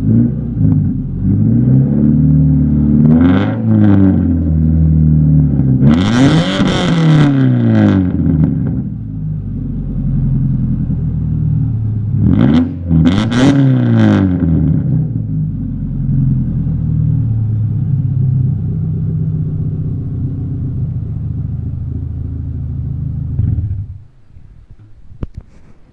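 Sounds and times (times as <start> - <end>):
car engine revving and idling: 0.0 - 24.3.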